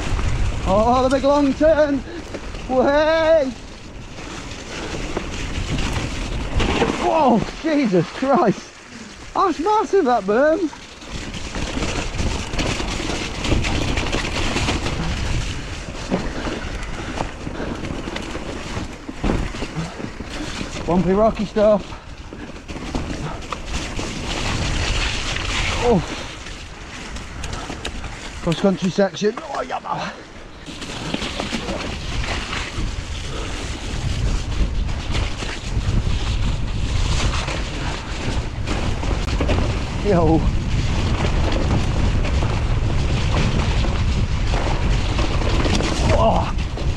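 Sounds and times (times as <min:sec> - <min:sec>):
bike knocks and rattles: 0:00.0 - 0:46.9
wind buffeting microphone: 0:00.0 - 0:46.9.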